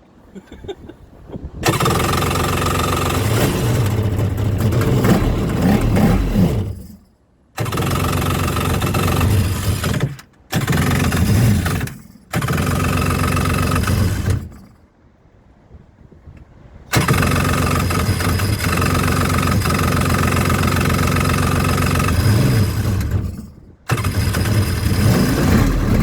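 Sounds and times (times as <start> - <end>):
electric starter cranking engine: 1.6 - 7.0, 7.6 - 14.8, 16.9 - 26.0.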